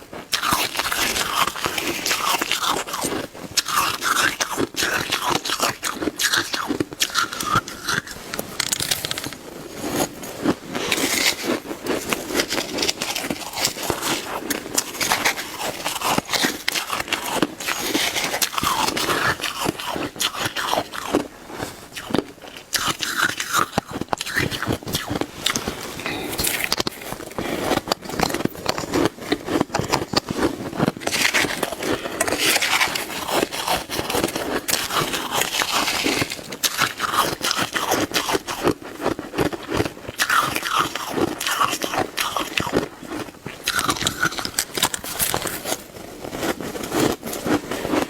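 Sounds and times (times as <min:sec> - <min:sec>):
chewing crunchy ice: 0:00.0 - 0:48.0.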